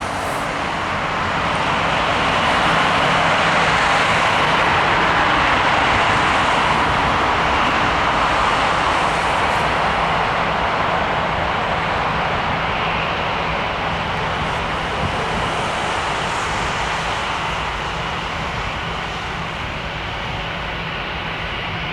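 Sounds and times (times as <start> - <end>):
jet engines rushing: 0.0 - 21.9.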